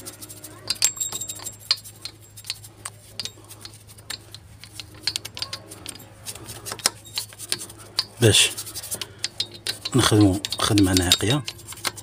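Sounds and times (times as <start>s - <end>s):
hand tools tapping on metal: 0.0s - 12.0s
steady low hum: 0.0s - 12.0s.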